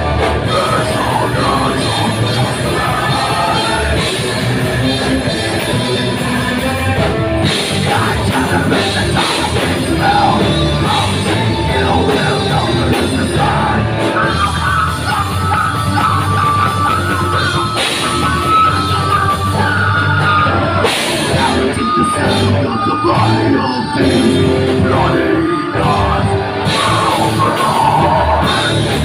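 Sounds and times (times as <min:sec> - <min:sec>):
heavy metal band playing: 0:00.0 - 0:29.0
high held melody line: 0:00.0 - 0:29.0.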